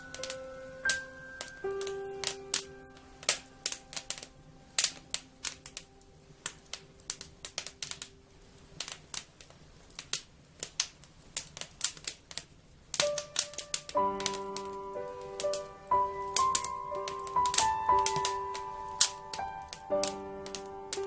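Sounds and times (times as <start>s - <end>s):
faint held musical tones: 0.0s - 10.6s, 12.6s - 21.0s
wood fire crackling and popping: 0.0s - 21.0s.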